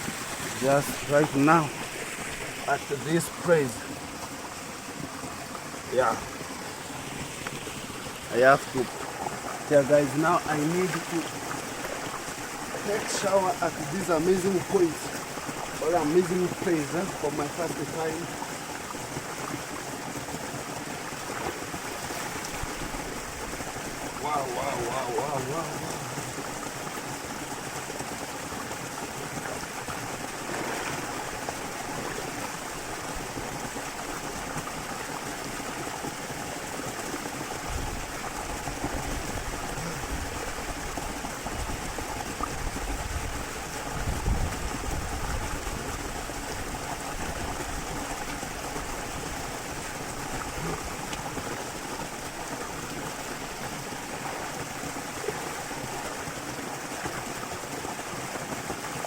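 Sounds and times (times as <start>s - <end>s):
waterfall pouring into river: 0.0s - 59.0s.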